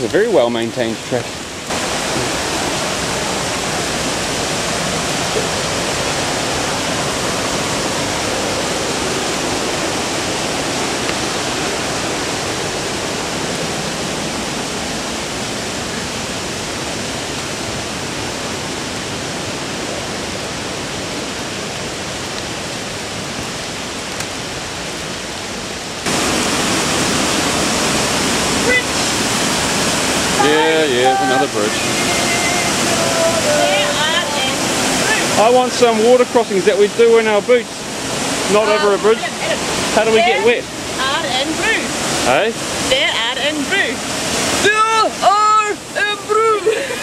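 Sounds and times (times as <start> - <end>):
fast-flowing stream: 0.0 - 47.0.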